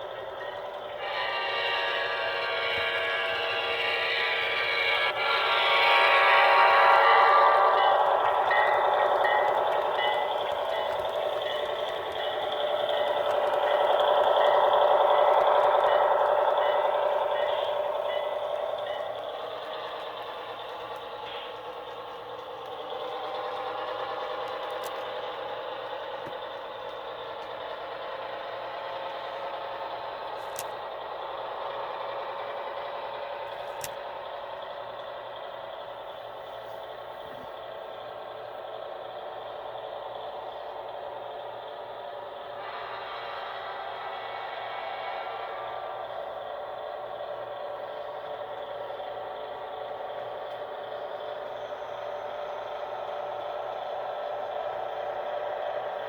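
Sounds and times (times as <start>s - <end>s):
model diesel engine sound: 0.0s - 56.0s.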